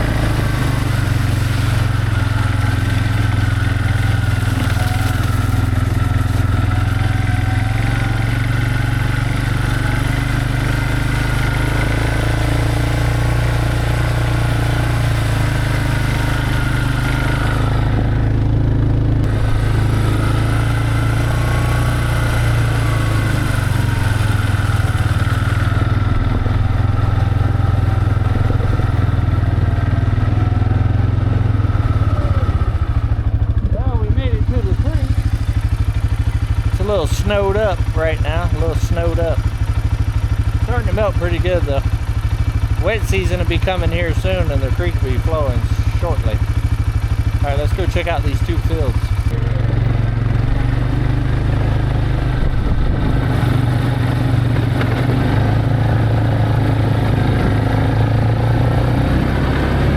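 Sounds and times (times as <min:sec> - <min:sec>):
vehicle engine humming: 0:00.0 - 0:59.9.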